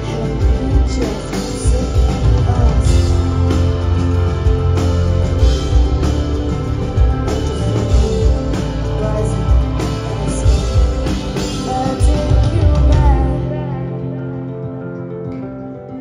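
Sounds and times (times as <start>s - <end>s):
drum kit with cymbals: 0.0s - 13.4s
bass guitar: 0.0s - 16.0s
electric guitar: 0.0s - 16.0s.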